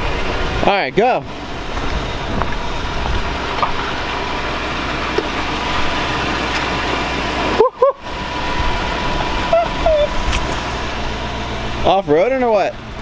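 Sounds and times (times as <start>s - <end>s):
pickup truck engine running: 0.0s - 13.0s.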